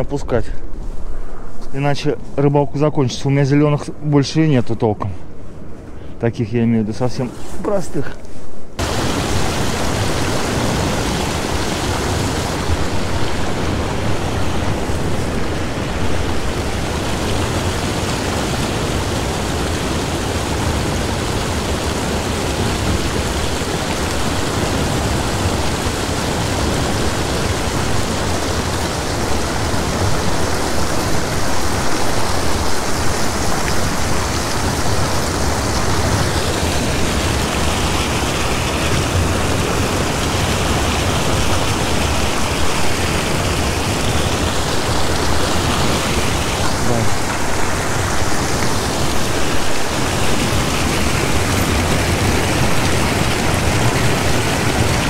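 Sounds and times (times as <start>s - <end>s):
water pouring and foaming: 8.8s - 55.0s.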